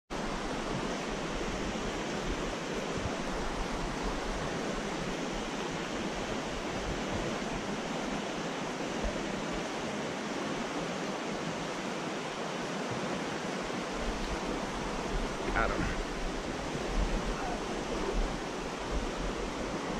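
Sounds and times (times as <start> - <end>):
creek water rushing over rapids: 0.1 - 19.9.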